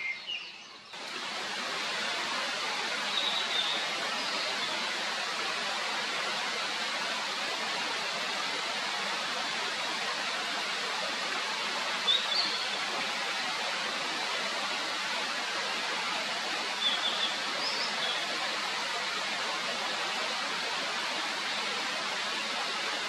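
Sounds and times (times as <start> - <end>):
mountain stream rushing: 1.0 - 23.0.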